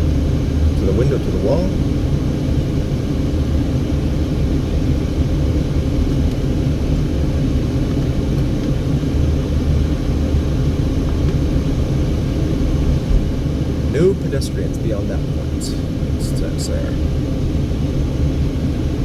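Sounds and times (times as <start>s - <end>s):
car interior low rumble: 0.0s - 19.0s.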